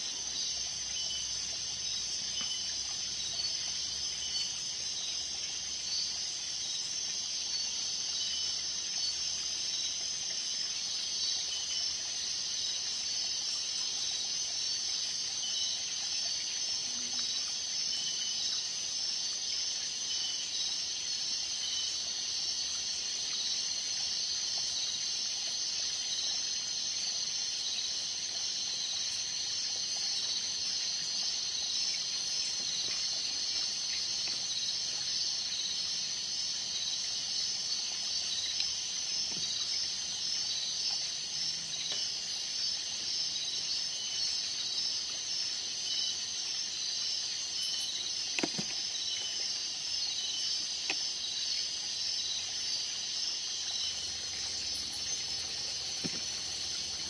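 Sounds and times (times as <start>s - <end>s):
insects chirping and trilling: 0.0s - 57.0s.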